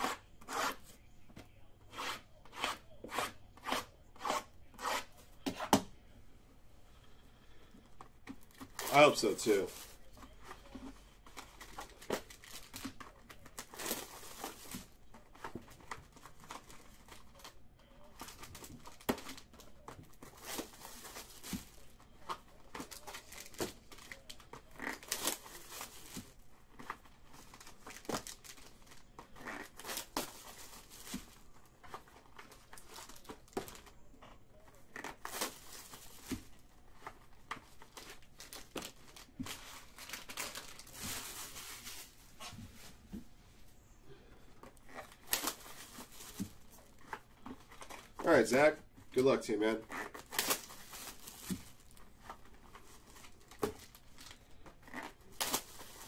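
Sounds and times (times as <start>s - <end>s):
foil packs crinkling and tearing: 8.4s - 33.9s, 34.6s - 42.9s, 44.8s - 56.0s.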